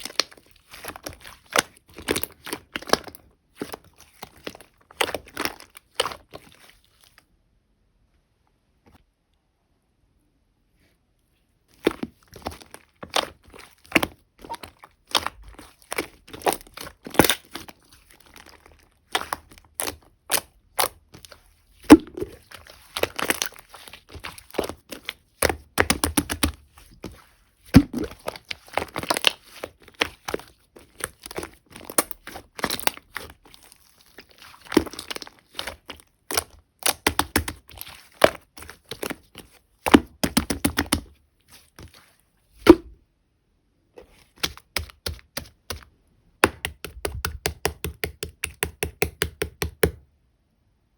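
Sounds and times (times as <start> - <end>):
slime clicking and crackling: 0.0 - 6.9, 11.8 - 42.0, 44.4 - 50.0.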